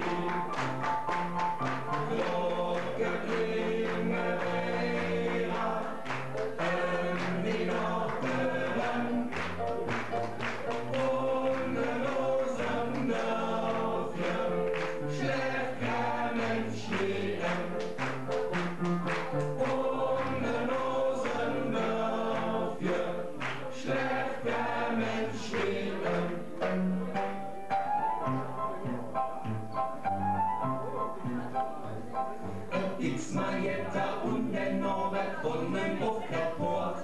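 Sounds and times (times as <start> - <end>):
group of people singing: 0.0 - 27.3, 32.7 - 37.0
instrumental accompaniment with beat: 0.0 - 31.7.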